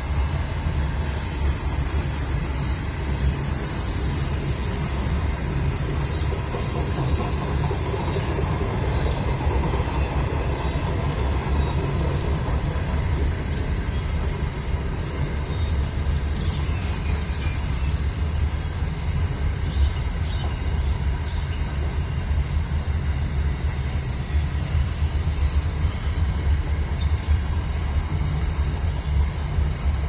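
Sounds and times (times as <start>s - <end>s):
train rumbling over bridge: 0.0s - 30.0s.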